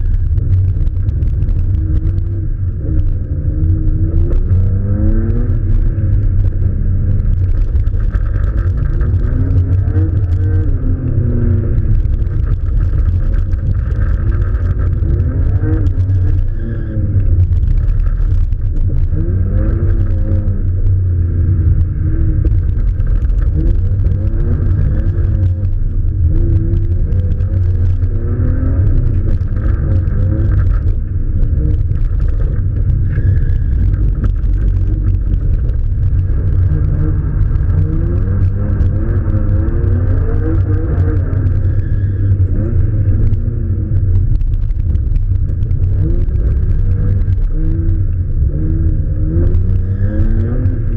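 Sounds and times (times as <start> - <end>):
muffled car engine revving: 0.0 - 50.9.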